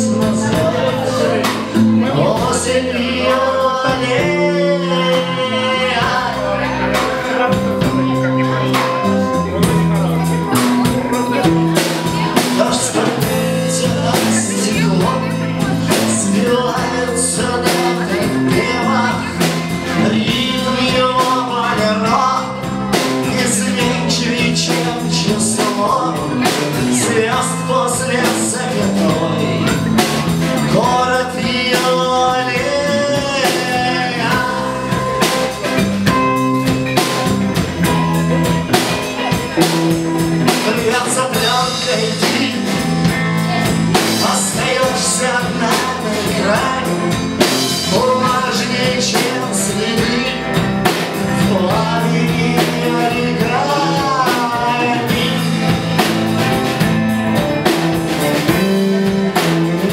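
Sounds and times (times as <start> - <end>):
rock song: 0.0 - 59.9.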